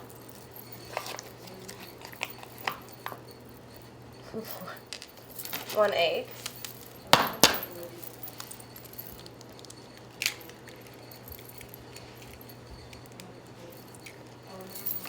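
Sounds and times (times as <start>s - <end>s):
mug and utensils clinking: 0.0s - 15.0s
steady low hum: 0.0s - 15.0s.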